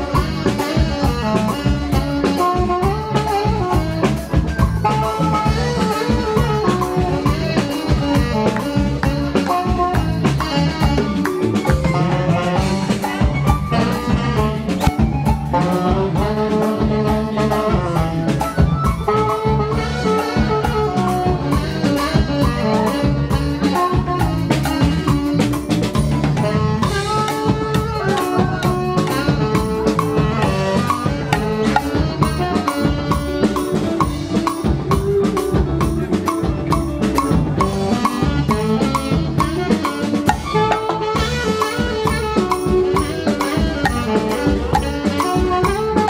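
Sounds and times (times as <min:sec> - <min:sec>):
alto saxophone melody: 0:00.0 - 0:46.0
drum kit beat: 0:00.0 - 0:46.0.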